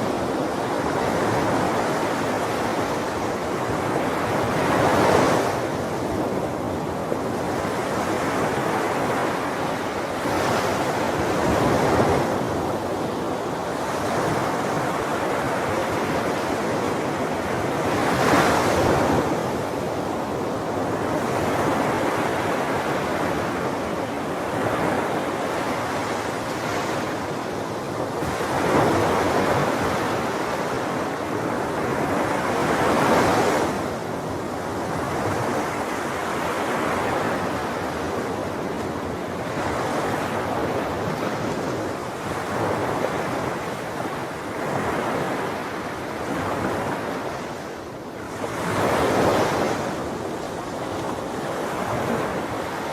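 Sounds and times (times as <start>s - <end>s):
ocean waves breaking on shore: 0.0s - 52.9s.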